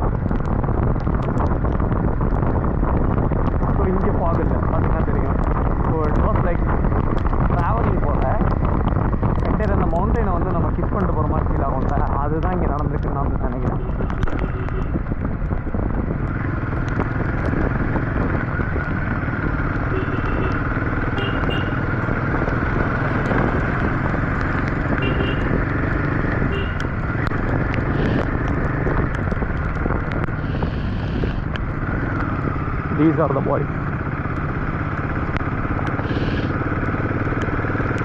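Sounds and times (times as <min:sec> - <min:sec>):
motorcycle engine running: 0:00.0 - 0:38.0
wind on microphone: 0:00.0 - 0:38.0.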